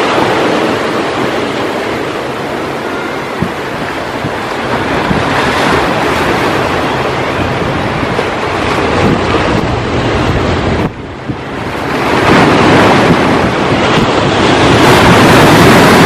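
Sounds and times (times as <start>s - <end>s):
ocean surf breaking: 0.0s - 16.0s
wind on microphone: 0.0s - 16.0s.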